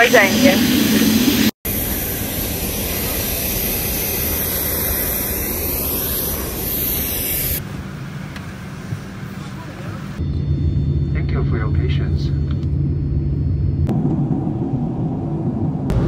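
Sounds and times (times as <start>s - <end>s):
aircraft cabin hum: 0.0s - 16.0s
jet aircraft rushing: 0.0s - 16.0s.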